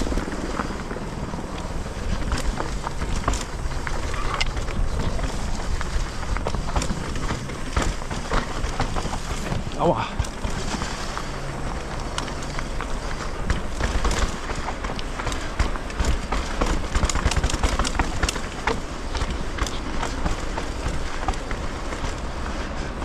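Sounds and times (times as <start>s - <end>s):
bike clicking and rattling: 0.0s - 23.0s
bike tyres rumbling on trail: 0.0s - 23.0s.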